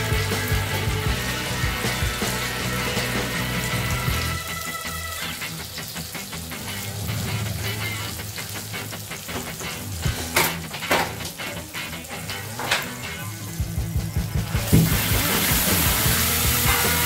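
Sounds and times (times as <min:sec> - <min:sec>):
sauce sizzling in hot oil: 0:00.0 - 0:17.0.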